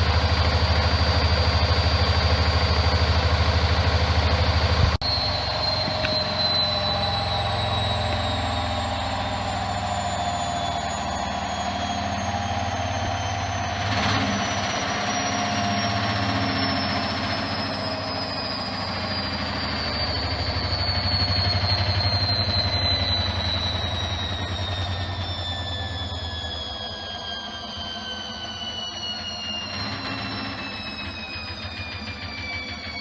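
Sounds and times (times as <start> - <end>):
washing machine spinning: 0.0 - 26.8.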